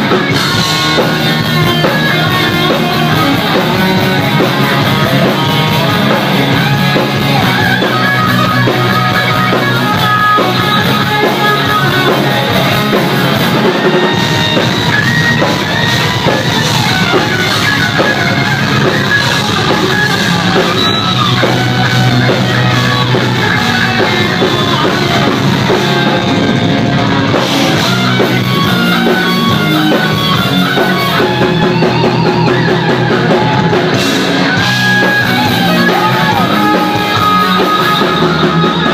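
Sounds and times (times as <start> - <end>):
rock music with guitar and drums: 0.0 - 38.9.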